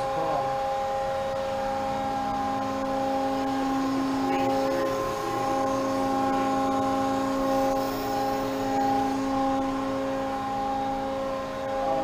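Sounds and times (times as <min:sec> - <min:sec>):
hydraulic pump motor whine: 0:00.0 - 0:12.0.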